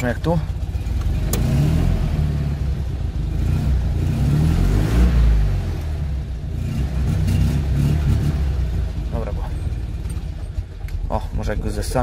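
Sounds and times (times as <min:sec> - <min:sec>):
car engine idling: 0:00.0 - 0:04.3, 0:05.4 - 0:12.0.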